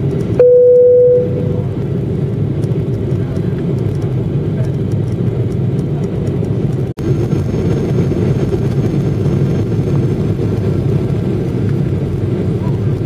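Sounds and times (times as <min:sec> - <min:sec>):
jet cabin engine rumble: 0:00.0 - 0:13.0.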